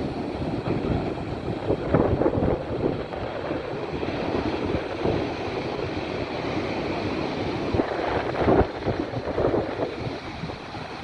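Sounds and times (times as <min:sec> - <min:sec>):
surf breaking over rocks: 0:00.0 - 0:11.0
wind buffeting microphone: 0:00.0 - 0:11.0.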